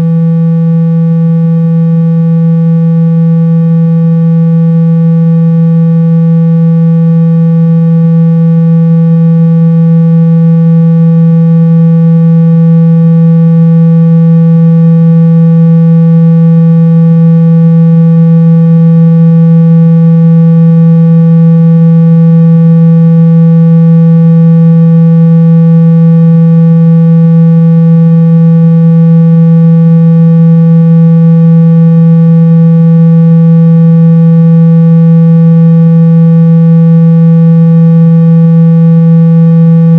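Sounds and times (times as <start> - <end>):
buzzy low tone from phone speaker: 0.0 - 39.9.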